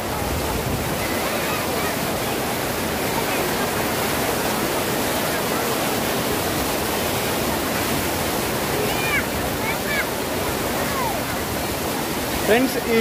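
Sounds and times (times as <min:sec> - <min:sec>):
water rushing over weir: 0:00.0 - 0:13.0.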